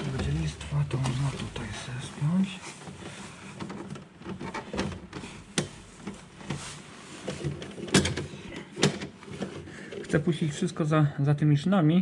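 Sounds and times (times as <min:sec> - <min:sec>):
rustling handling noise: 0:00.0 - 0:11.0.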